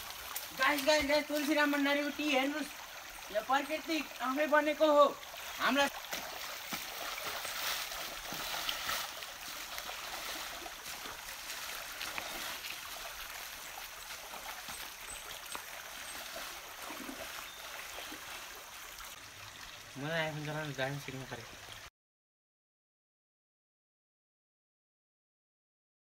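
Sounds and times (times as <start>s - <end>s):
stream babbling over stones: 0.0s - 21.9s.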